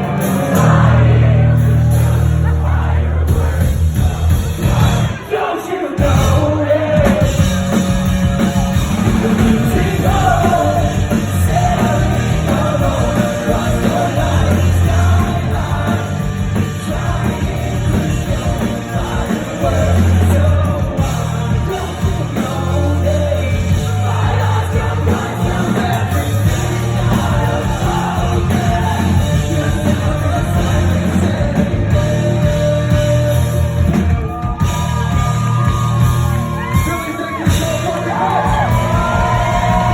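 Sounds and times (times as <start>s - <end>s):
loud rock music with singing: 0.0s - 39.9s.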